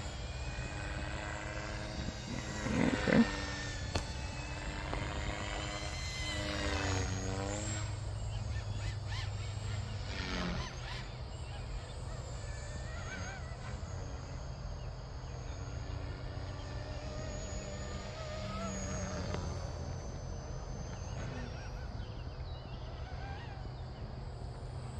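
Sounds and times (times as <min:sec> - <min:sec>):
model airplane motor droning: 0:00.0 - 0:24.9.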